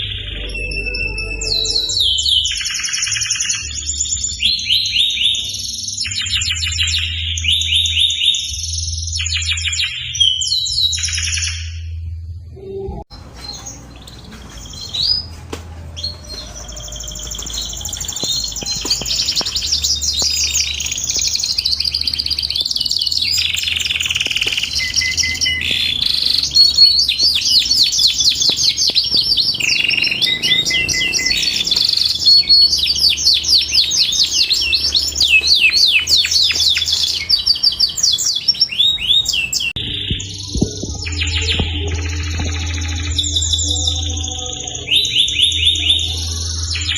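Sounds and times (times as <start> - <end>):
canary singing trills: 0.0 - 11.7, 12.7 - 46.9.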